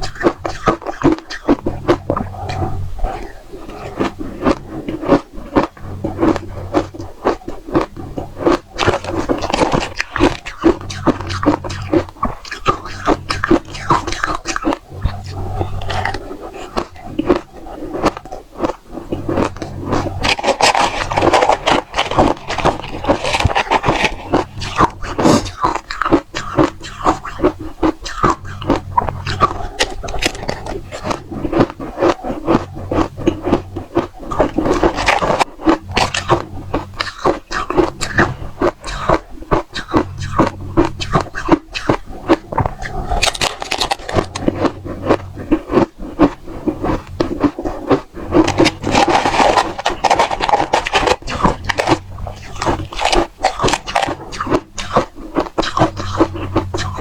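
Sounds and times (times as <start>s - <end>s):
ice crunching between teeth: 0.0s - 57.0s.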